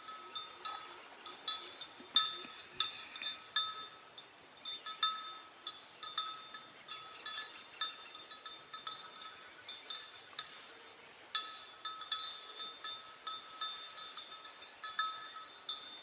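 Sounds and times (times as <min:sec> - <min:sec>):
small metal bell clanking: 0:00.0 - 0:10.7, 0:11.4 - 0:16.0.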